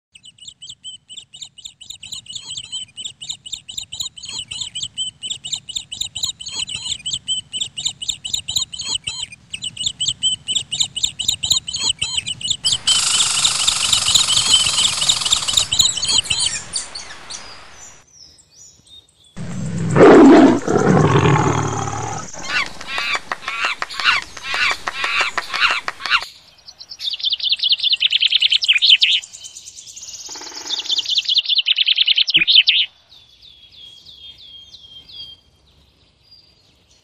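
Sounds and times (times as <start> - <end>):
bird chirping: 0.2 - 37.0.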